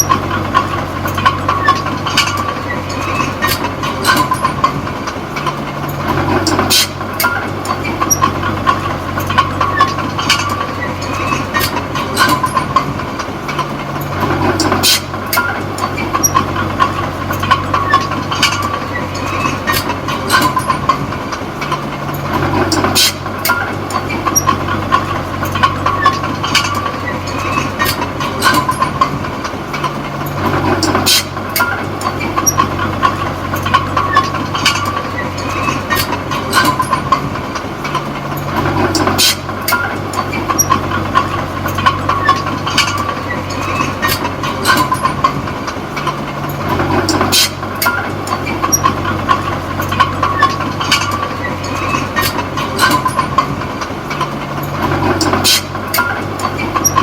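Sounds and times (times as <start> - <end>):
bulldozer diesel engine running: 0.0 - 57.0
metallic clanks from tracks: 0.0 - 57.0.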